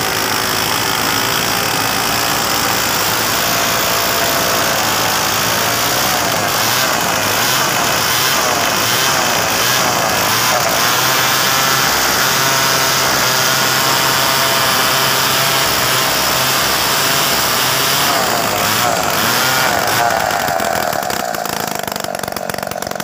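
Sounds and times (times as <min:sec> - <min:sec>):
chainsaw cutting through log: 0:00.0 - 0:23.0.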